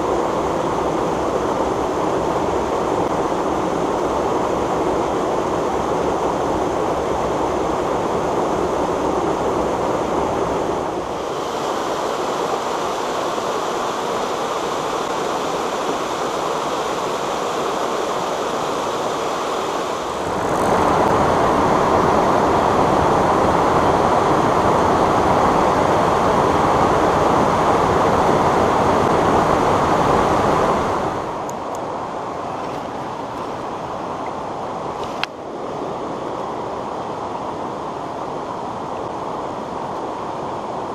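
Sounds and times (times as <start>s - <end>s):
water rushing over waterfalls: 0.0s - 40.9s.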